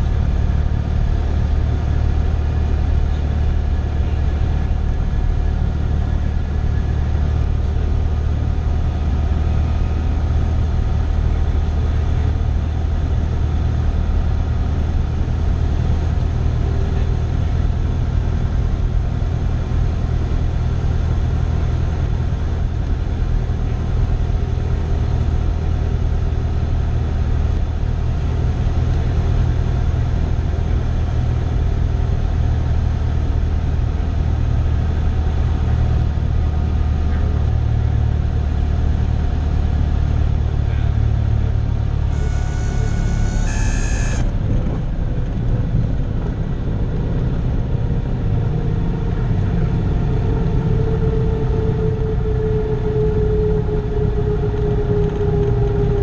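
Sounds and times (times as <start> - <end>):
plane engine droning in cabin: 0.0 - 56.0.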